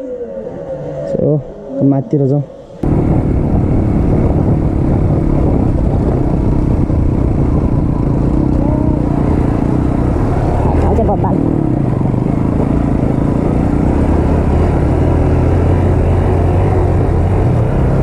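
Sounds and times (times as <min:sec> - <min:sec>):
constant noise: 0:00.0 - 0:18.0
motorcycle engine running: 0:02.8 - 0:18.0.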